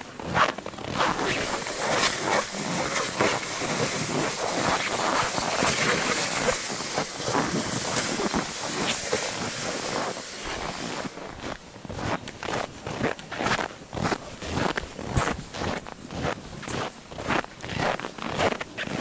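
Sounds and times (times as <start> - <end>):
footsteps crunching in snow: 0.0 - 19.0
sled scraping over snow: 0.0 - 19.0.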